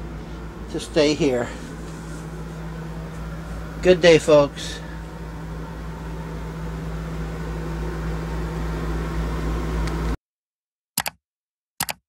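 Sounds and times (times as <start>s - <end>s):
low machine hum with hiss: 0.0s - 10.2s.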